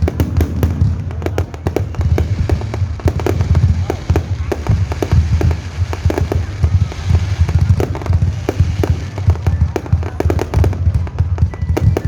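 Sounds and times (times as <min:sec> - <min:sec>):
fireworks deep booms: 0:00.0 - 0:12.0
fireworks sharp cracks: 0:00.0 - 0:12.0.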